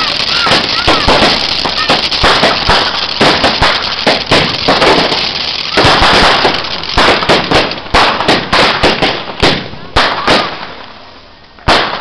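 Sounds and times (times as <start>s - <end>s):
continuous hiss: 0.0s - 12.0s
fireworks banging: 0.0s - 12.0s.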